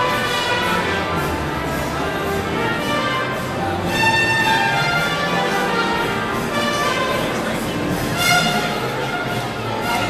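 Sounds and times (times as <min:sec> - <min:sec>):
orchestral strings and brass: 0:00.0 - 0:10.0.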